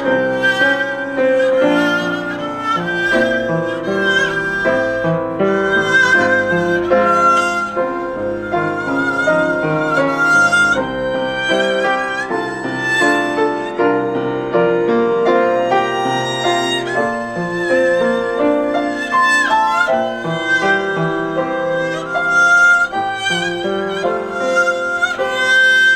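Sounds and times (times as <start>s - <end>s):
piano accompaniment: 0.0s - 25.9s
violin melody with vibrato: 0.0s - 25.9s.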